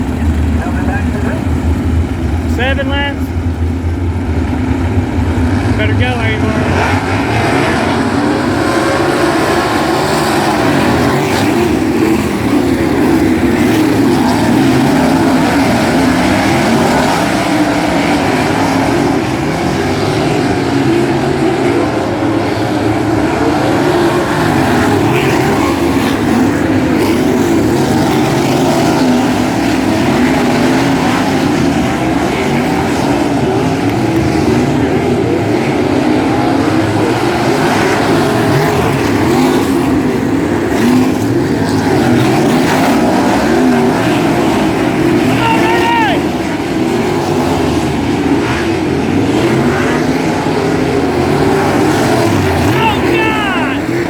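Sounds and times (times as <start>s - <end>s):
racing car engines revving: 0.0s - 54.0s.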